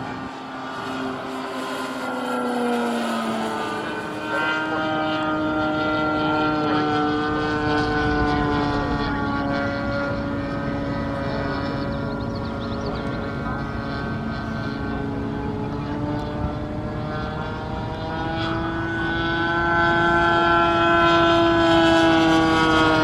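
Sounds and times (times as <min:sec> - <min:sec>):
model plane radial engine: 0:00.0 - 0:23.0.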